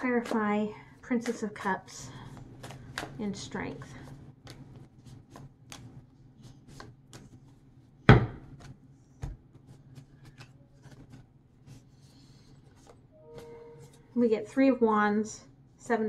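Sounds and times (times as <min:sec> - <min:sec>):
cards being shuffled by hand: 0:00.0 - 0:14.1.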